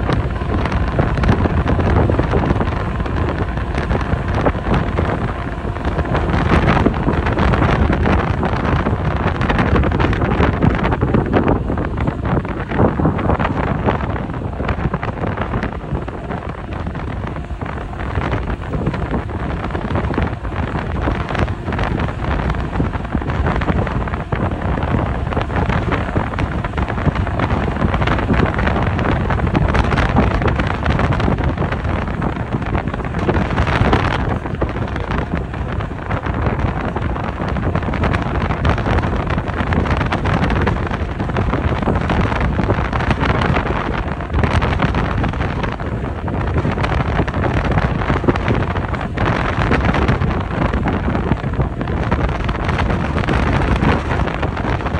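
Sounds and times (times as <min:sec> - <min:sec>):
ferry engine rumble: 0:00.0 - 0:54.9
wind buffeting the microphone: 0:00.0 - 0:54.9.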